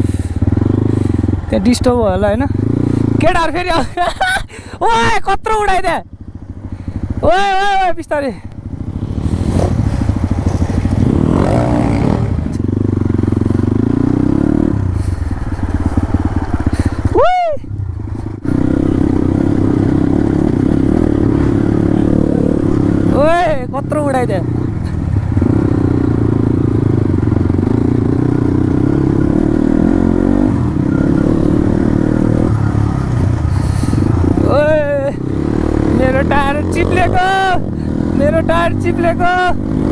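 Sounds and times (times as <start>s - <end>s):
dirt bike engine revving: 0.0s - 3.5s, 8.6s - 17.2s, 18.0s - 39.9s.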